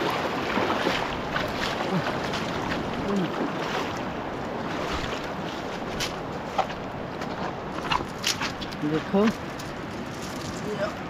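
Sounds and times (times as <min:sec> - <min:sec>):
river water rushing and splashing: 0:00.0 - 0:11.0.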